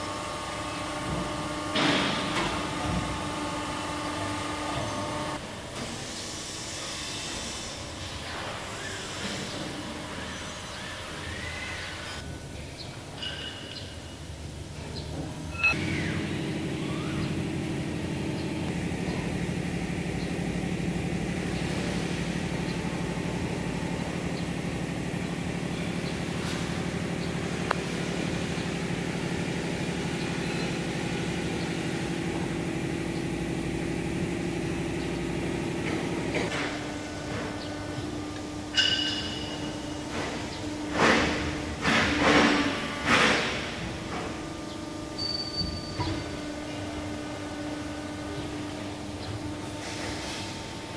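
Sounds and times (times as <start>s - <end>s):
motor starting clunk: 0.0s - 6.2s, 14.8s - 50.8s
hydraulic pump motor humming: 0.0s - 12.2s, 14.4s - 50.9s.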